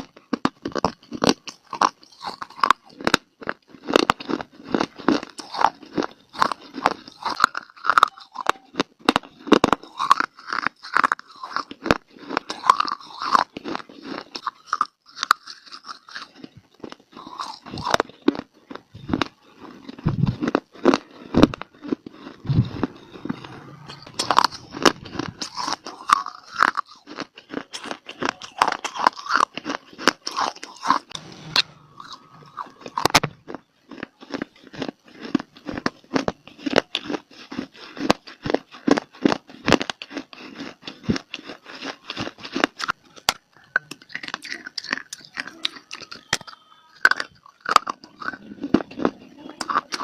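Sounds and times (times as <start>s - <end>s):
crunchy chewing of dry clay: 0.0s - 50.0s.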